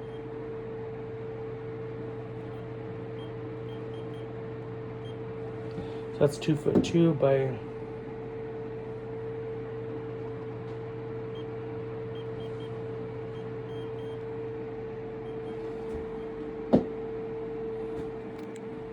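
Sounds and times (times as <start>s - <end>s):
steady mechanical hum: 0.0s - 18.9s.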